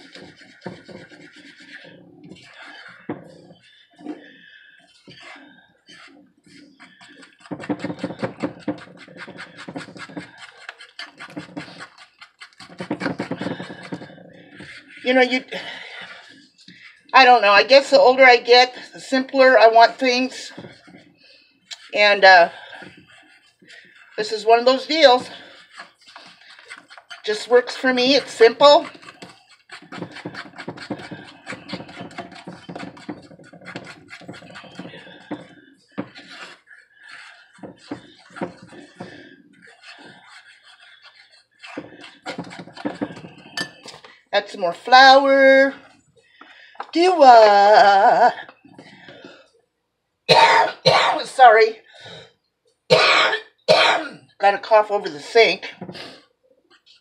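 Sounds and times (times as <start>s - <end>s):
fork beating dough in bowl: 0.0s - 49.6s, 52.9s - 57.0s.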